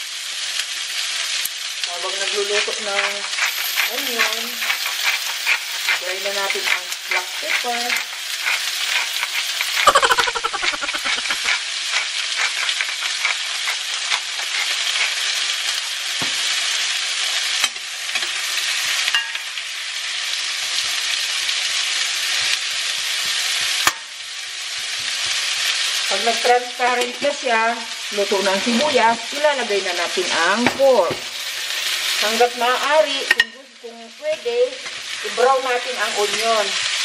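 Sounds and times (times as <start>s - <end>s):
onions sizzling in a pan: 0.0s - 37.0s.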